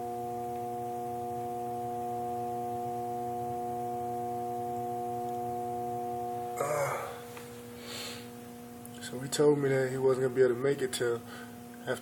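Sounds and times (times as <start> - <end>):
furnace humming: 0.0 - 12.0.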